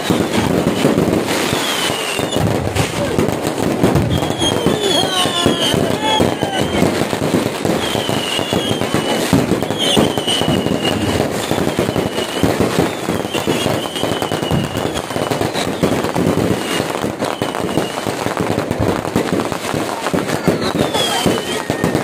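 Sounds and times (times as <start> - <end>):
fireworks bursting and crackling: 0.0 - 22.0
high firework whistles: 0.0 - 22.0.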